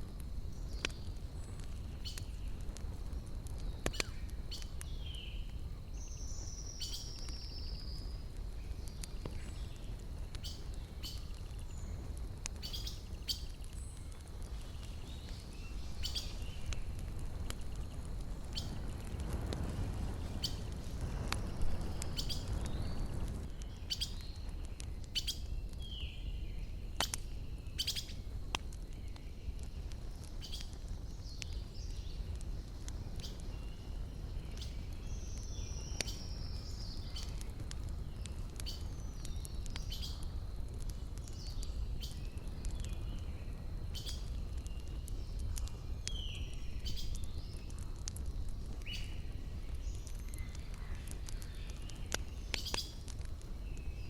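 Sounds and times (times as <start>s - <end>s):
campfire crackling and popping: 0.0s - 54.0s
small birds chirping: 0.5s - 19.2s, 20.1s - 54.0s.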